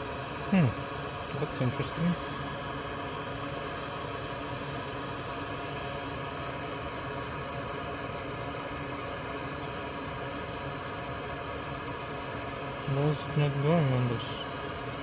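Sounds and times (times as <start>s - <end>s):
small fan whirring: 0.0s - 15.0s.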